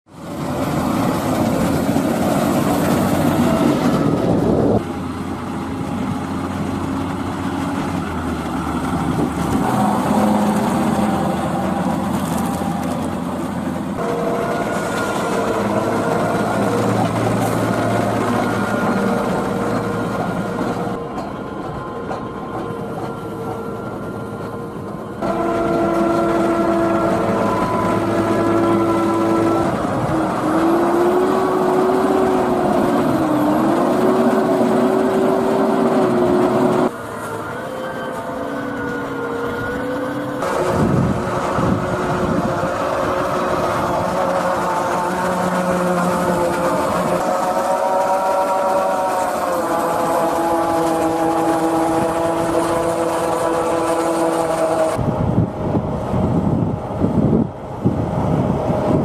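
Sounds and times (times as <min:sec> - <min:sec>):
tractor engine running: 0:00.1 - 0:36.9, 0:39.7 - 0:58.0.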